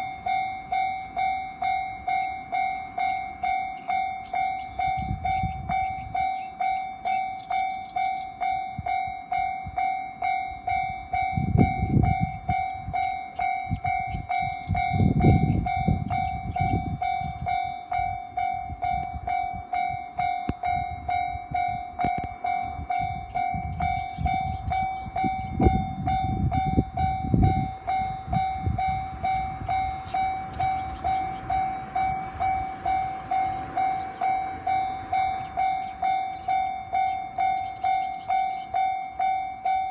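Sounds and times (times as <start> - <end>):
level crossing electronic bell: 0.0 - 39.9.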